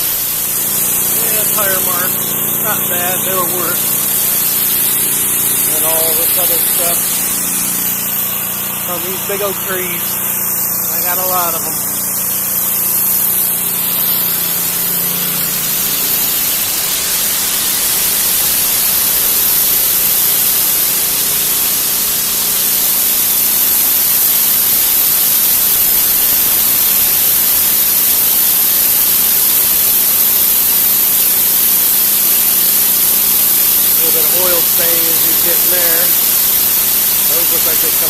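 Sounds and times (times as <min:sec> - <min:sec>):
pressure washer spraying concrete: 0:00.0 - 0:38.0.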